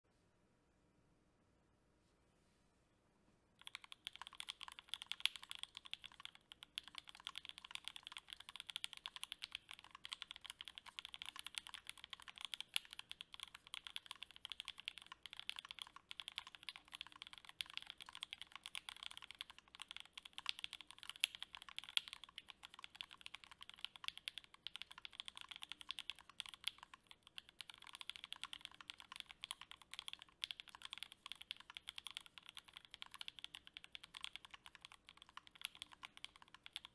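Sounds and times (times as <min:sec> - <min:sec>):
mechanical keyboard typing: 0:03.6 - 0:36.9.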